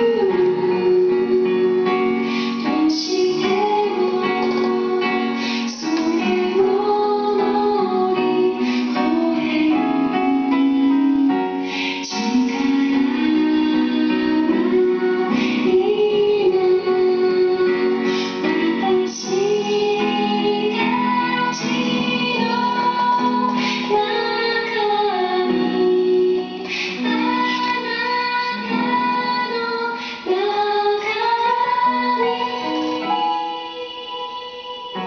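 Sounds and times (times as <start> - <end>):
instrumental backing: 0.0 - 35.0
woman singing slow melody: 0.0 - 35.0.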